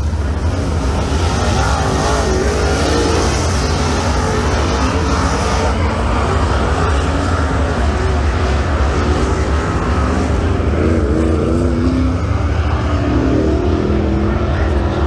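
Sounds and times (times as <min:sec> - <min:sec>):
engine idling with deep rumble: 0:00.0 - 0:15.0
indistinct voices: 0:00.0 - 0:15.0.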